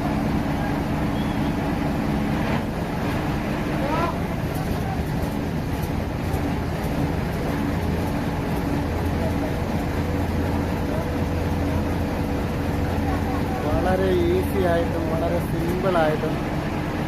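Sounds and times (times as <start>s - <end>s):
diesel machinery engine drone: 0.0s - 17.0s.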